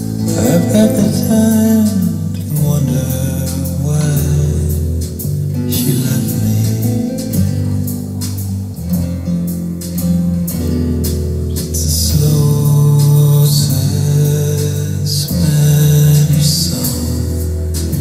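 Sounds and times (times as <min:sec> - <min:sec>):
guitar over bass and beat: 0:00.0 - 0:18.0.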